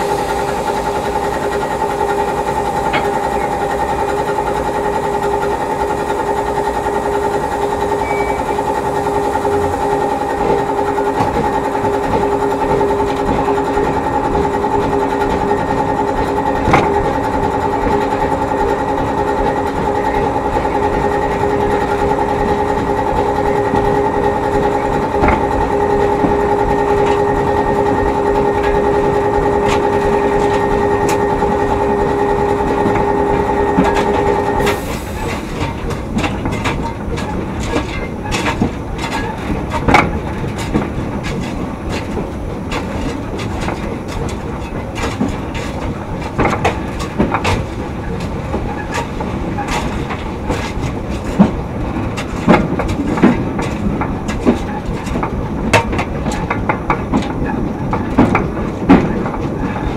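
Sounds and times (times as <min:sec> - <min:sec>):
steady multi-pitched hum: 0:00.0 - 0:59.9
train wheels clicking over rail joints: 0:00.0 - 0:59.9.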